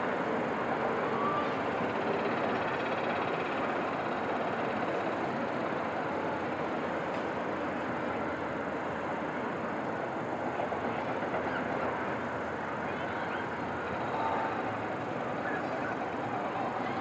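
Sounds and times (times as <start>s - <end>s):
distant city traffic rumble: 0.0s - 17.0s
faint wavering whines: 0.0s - 17.0s.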